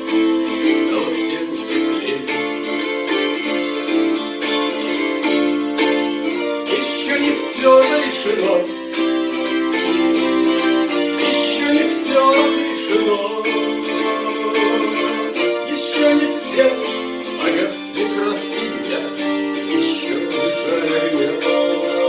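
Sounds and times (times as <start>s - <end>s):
plucked strings melody: 0.0s - 22.0s.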